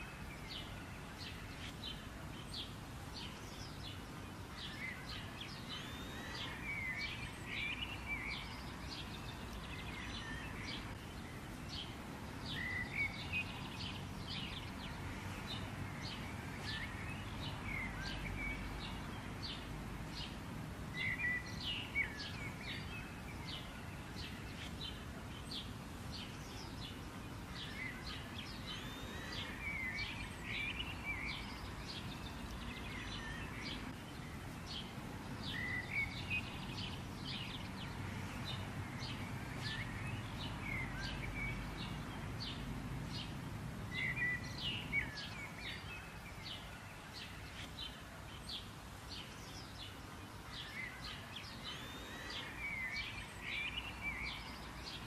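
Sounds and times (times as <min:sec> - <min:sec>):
low outdoor background noise: 0:00.0 - 0:55.0
small birds chirping: 0:00.0 - 0:55.0.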